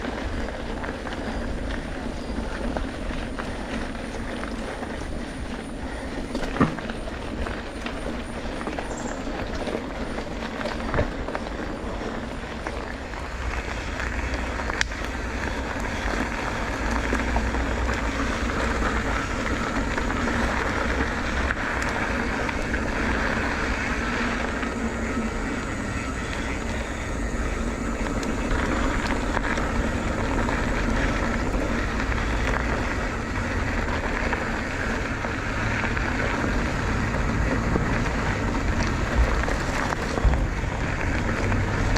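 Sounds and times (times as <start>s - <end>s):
motorcycle engine and wind noise: 0.0s - 41.9s.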